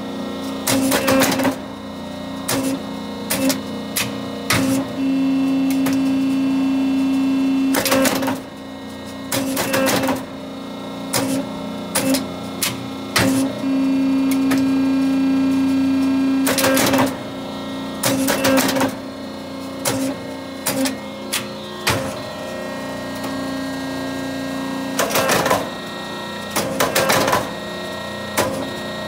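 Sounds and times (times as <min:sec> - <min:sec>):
hydraulic machine hum: 0:00.0 - 0:29.0.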